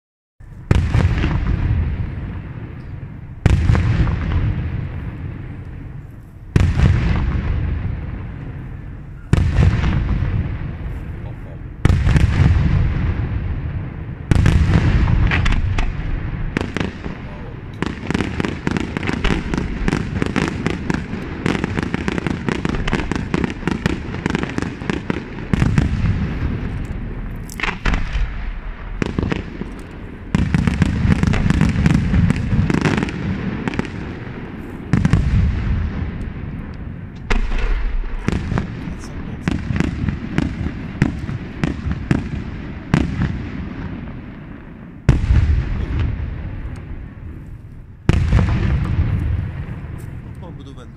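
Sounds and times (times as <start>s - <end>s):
deep firework booms: 0.4s - 50.9s
firework bursts and crackling: 0.4s - 50.9s.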